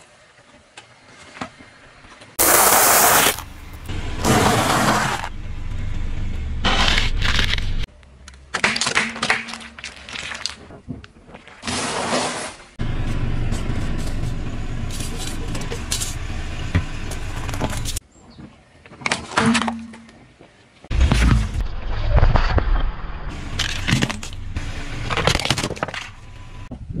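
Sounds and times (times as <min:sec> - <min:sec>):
outdoor noise: 0:00.0 - 0:27.0.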